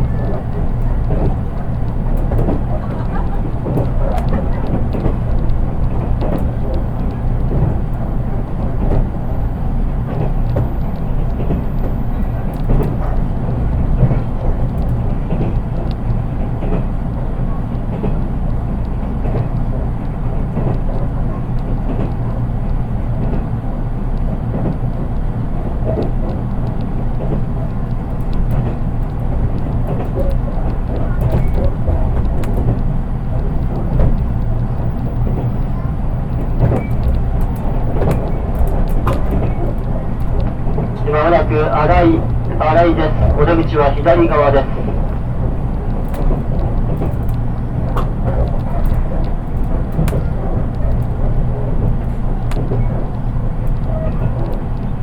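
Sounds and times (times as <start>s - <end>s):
train wheel-on-rail rumble: 0.0s - 55.0s.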